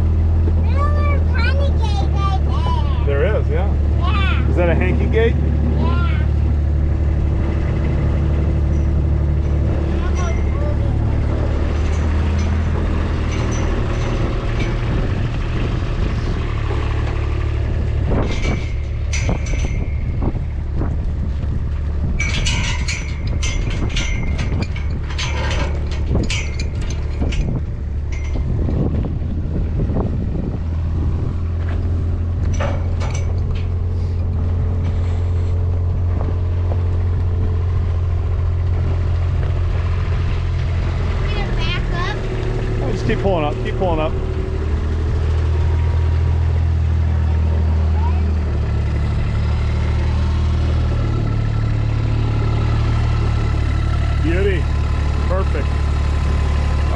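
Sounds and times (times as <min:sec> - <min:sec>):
farm vehicle engine humming: 0:00.0 - 0:56.9
metallic clanks and rattles: 0:00.3 - 0:56.9.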